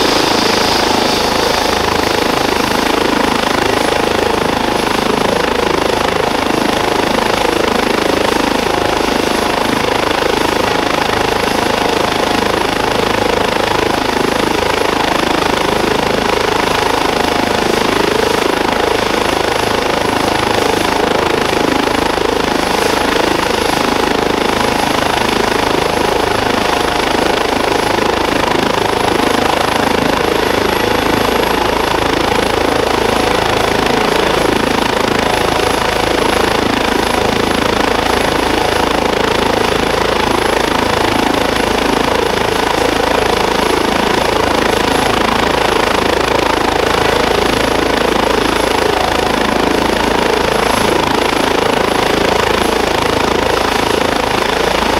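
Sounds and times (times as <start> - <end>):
helicopter rotor noise: 0.0 - 54.9
high turbine whine: 0.0 - 54.9.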